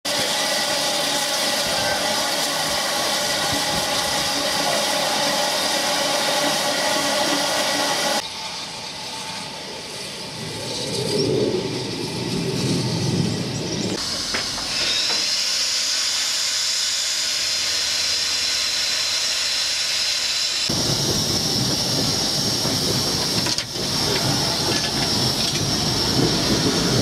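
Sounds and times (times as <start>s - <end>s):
steam hissing from safety valves: 0.1s - 9.4s, 13.6s - 27.0s.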